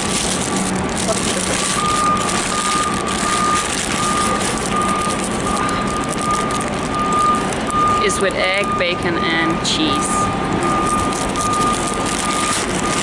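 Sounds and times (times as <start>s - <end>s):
reversing alarm beeping: 1.6s - 13.0s.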